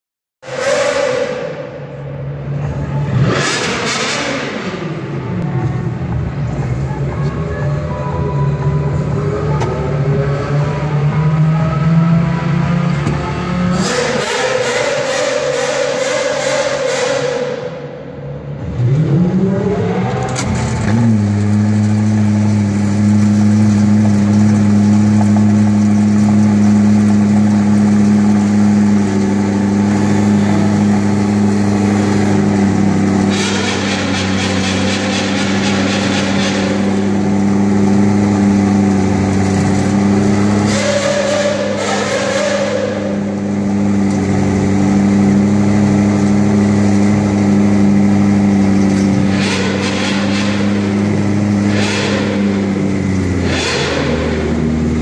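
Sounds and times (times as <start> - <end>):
car engine revving and idling: 0.4 - 55.0.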